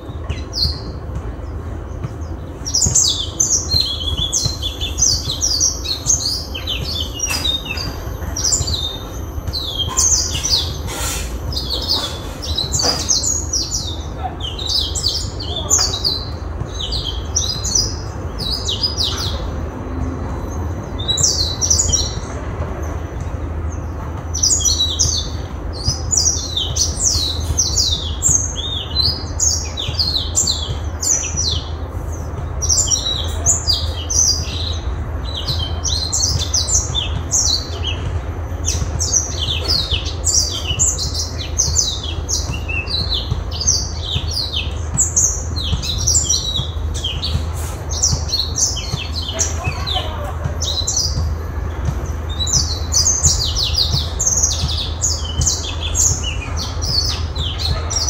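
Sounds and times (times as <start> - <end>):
steady low hum: 0.0 - 57.6.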